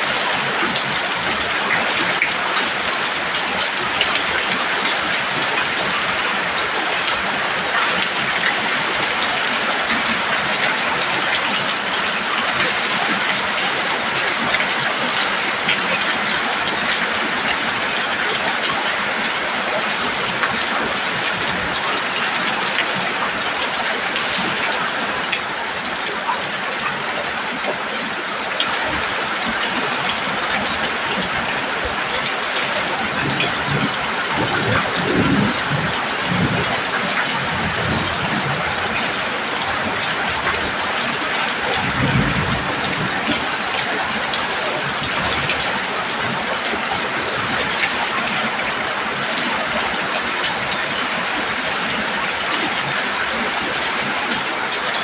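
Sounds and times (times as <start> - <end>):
heavy rain on a roof: 0.0 - 55.0.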